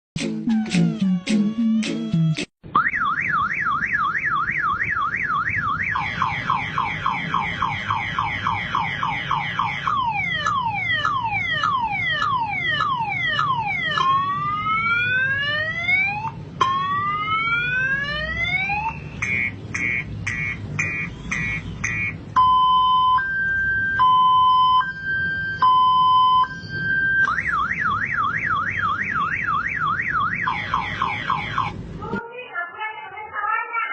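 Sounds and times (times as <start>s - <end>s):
motorcycle alarm siren: 0.6s - 31.8s.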